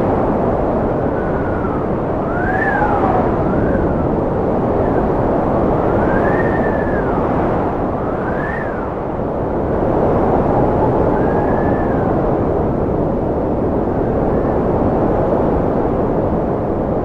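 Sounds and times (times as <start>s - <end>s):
high whistling wind howl: 0.0s - 17.0s
strong wind rushing: 0.0s - 17.0s.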